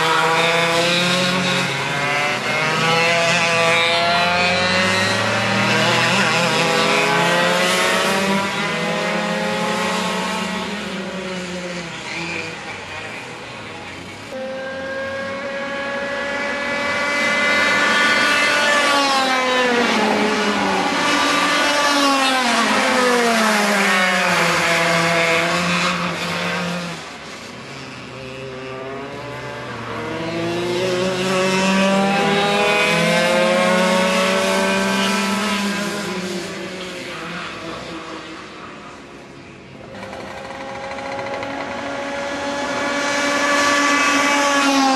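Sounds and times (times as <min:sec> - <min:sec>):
kart engines revving past: 0:00.0 - 0:44.9.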